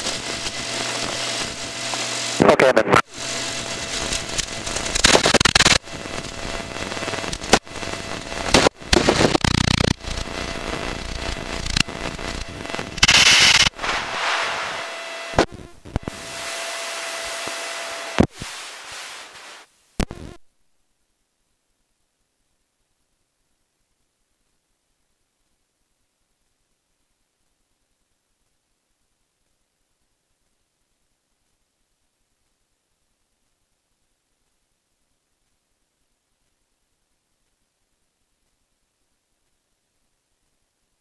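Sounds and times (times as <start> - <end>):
radio static crackling and hiss: 0.0 - 41.0.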